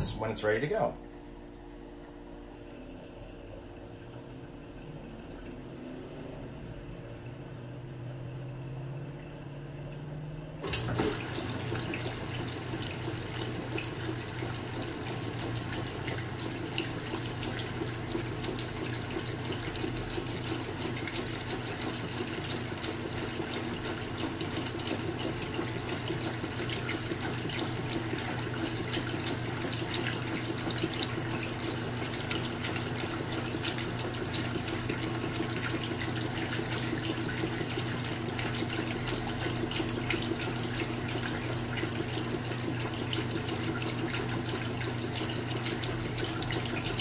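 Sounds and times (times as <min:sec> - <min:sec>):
washing machine humming: 0:00.0 - 0:47.0
water churning and sloshing: 0:01.4 - 0:47.0.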